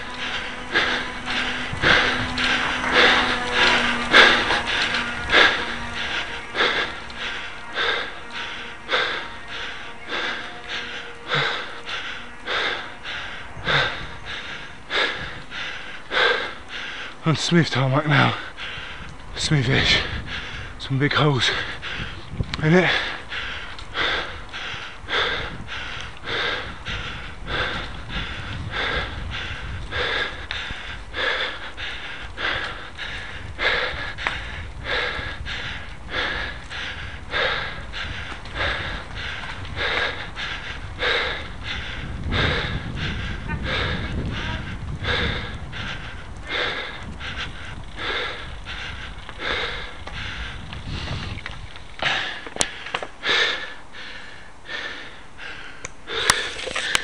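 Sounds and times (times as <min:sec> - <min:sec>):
heavy rhythmic breathing: 0:00.0 - 0:57.0
steady low rumble: 0:00.0 - 0:57.0.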